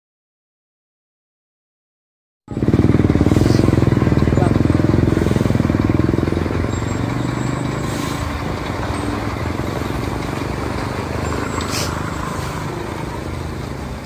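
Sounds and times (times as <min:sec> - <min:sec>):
vehicle engine running: 0:02.5 - 0:14.0.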